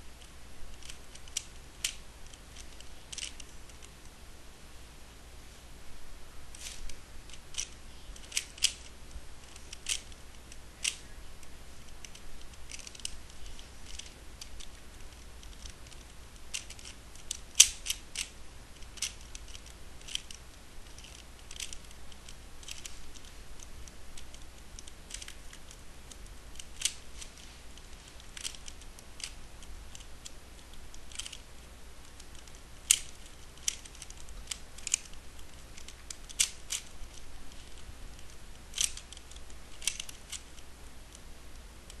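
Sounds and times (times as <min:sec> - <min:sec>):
puzzle cube plastic clicks: 0:00.2 - 0:04.1, 0:06.5 - 0:40.7.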